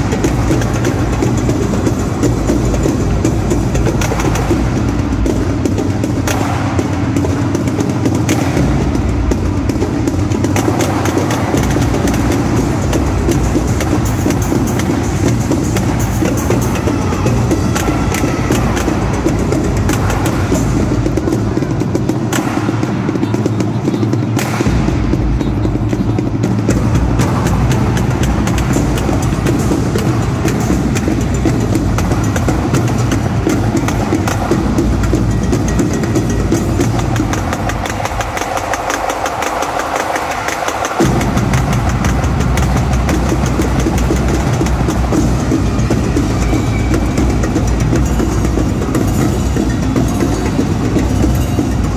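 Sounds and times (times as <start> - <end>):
bass drums: 0.0 - 51.9
snare drum rattle: 0.0 - 51.9.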